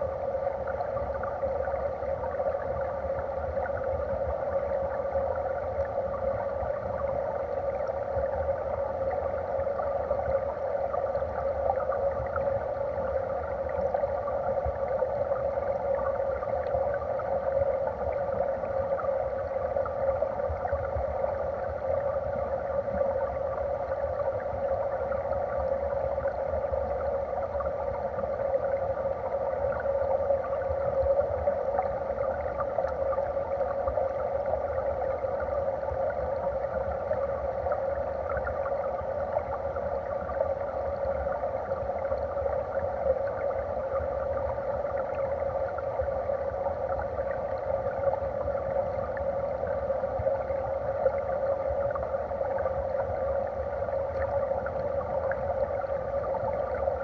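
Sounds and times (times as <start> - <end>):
underwater stream rushing: 0.0 - 57.0.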